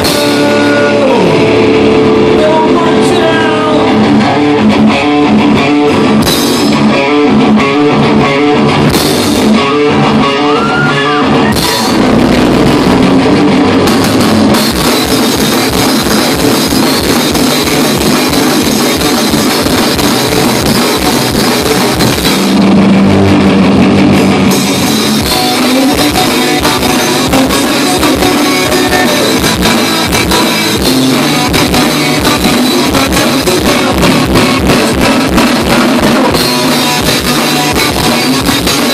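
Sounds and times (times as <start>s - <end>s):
electric guitar chords: 0.0s - 38.9s
fast drum kit beat: 0.0s - 38.9s
rock band playing: 0.0s - 38.9s.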